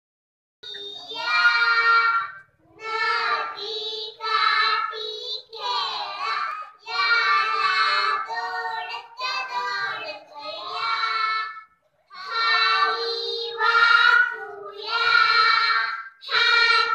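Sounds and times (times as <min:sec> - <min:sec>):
girls singing into a microphone: 0:00.6 - 0:16.9.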